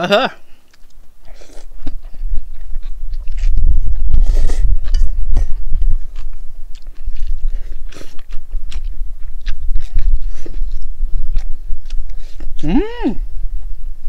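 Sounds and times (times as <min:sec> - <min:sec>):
chewing noodles: 0:00.6 - 0:12.6.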